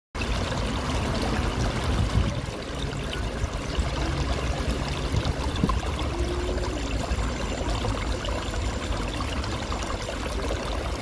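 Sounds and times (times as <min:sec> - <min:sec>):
water pouring into a pool: 0:00.2 - 0:11.0.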